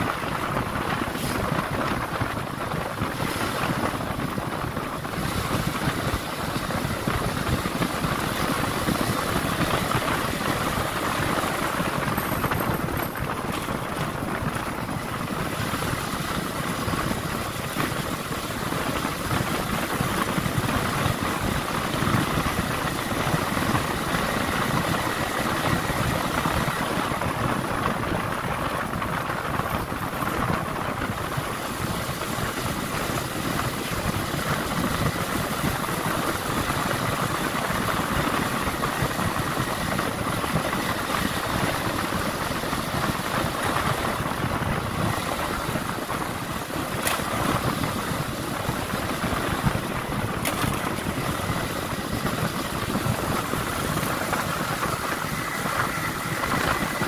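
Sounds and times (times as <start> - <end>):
motorcycle engine running: 0.0 - 57.0
road noise: 0.0 - 57.0
wind rush: 0.0 - 57.0.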